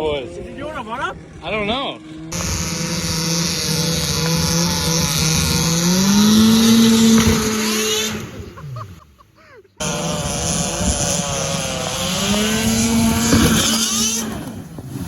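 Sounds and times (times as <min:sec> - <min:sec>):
snowmobile engine revving loud: 0:00.1 - 0:09.1, 0:09.8 - 0:15.0.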